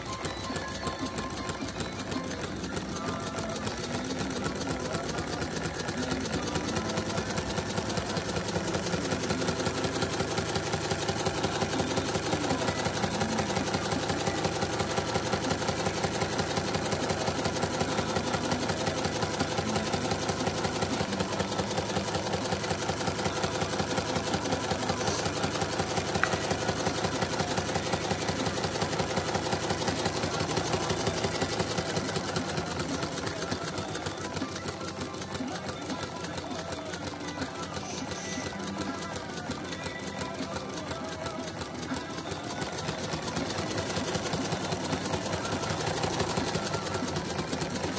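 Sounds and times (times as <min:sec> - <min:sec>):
pneumatic engine clattering: 0:00.0 - 0:47.9.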